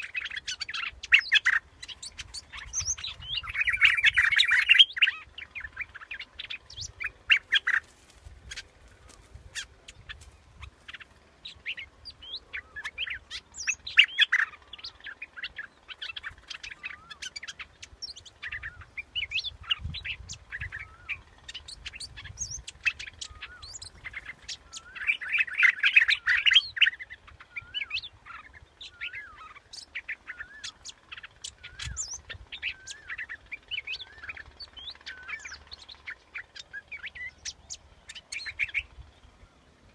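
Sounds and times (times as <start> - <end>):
bulbul singing: 0.0 - 39.5.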